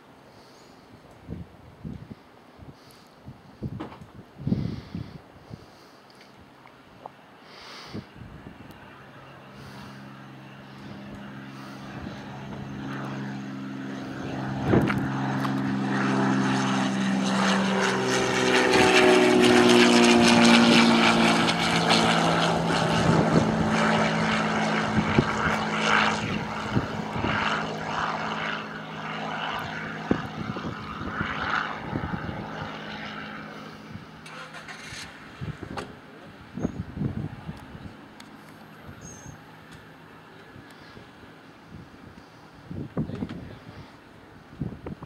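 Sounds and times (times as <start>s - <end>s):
propeller plane engine passing: 0.0s - 45.0s.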